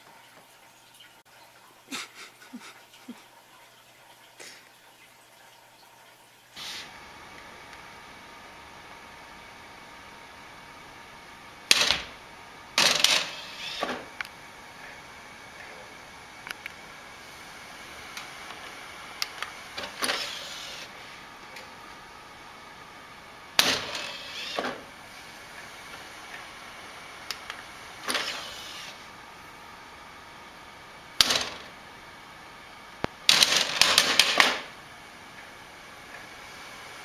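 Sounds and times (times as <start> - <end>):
dvd drive clicking and whirring: 6.6 - 37.0.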